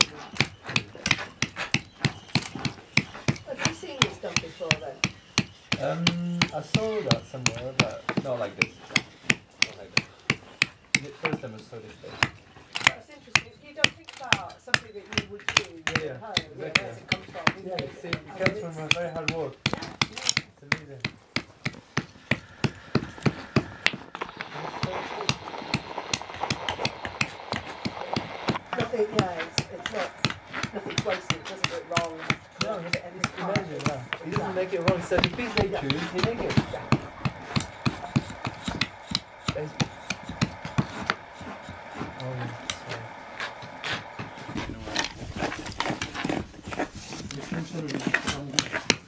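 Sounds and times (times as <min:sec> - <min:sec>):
adze chopping wood: 0:00.0 - 0:49.0.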